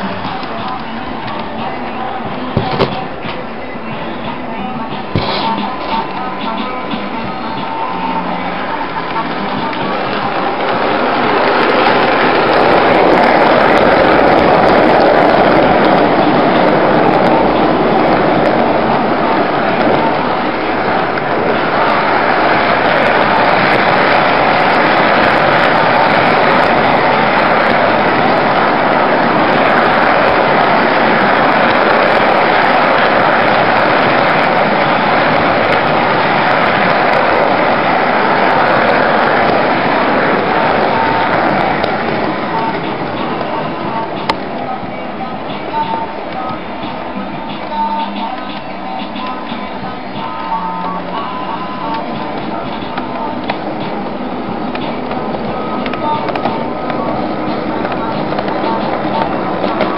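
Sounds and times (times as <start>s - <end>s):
model train wheels rattling: 5.1s - 59.9s.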